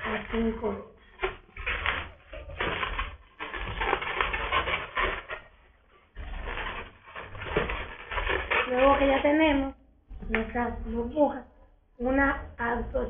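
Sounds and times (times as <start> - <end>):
balloon rubbing and crackling: 0.0 - 13.0.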